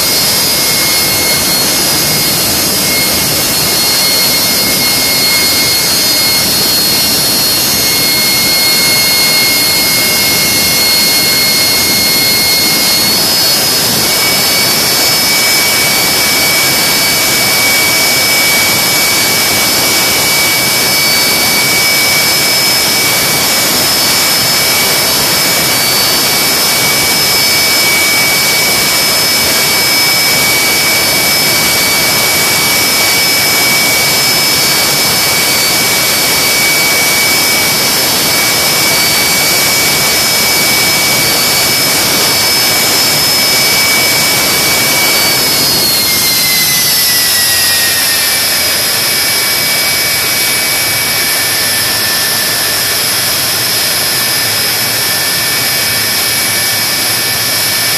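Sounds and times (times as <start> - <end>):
high compressor whine: 0.0 - 57.9
turbojet engine roaring: 0.0 - 57.9.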